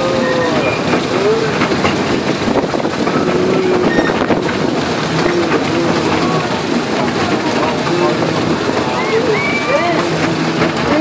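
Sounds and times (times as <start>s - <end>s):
train wheels rattling and clattering: 0.0s - 11.0s.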